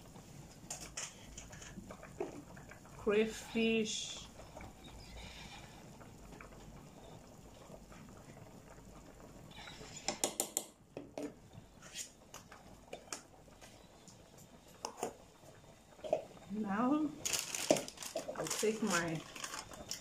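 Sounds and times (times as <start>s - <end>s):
soup simmering: 0.0s - 20.0s.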